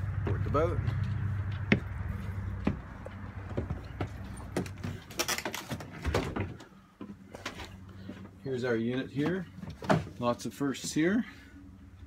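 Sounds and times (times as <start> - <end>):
knocks and clattering handling noise: 0.1 - 11.1.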